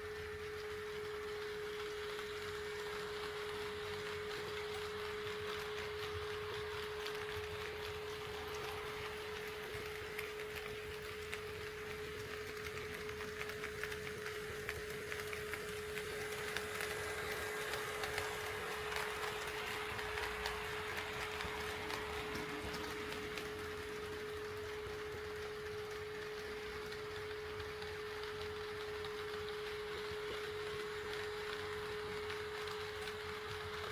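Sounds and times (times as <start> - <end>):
model train wheels ticking: 0.0 - 33.9.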